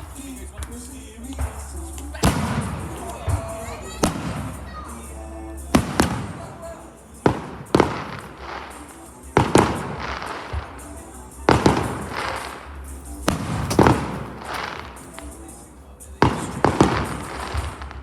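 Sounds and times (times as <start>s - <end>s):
fireworks bangs and crackle: 0.0s - 4.9s, 5.7s - 15.6s, 16.2s - 18.0s
faint music: 0.0s - 18.0s.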